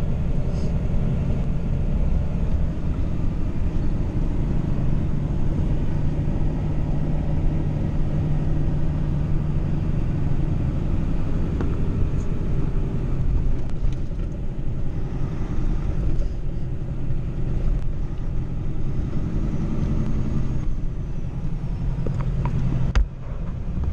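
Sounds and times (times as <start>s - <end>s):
truck engine drone: 0.0s - 23.9s
tyre and road noise: 0.0s - 23.9s.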